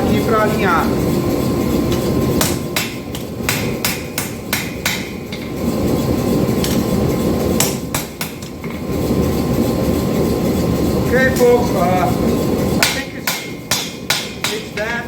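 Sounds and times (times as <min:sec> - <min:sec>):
hammer blows on hot steel: 0:00.0 - 0:09.0, 0:10.9 - 0:15.0
steady low rumble: 0:00.0 - 0:15.0.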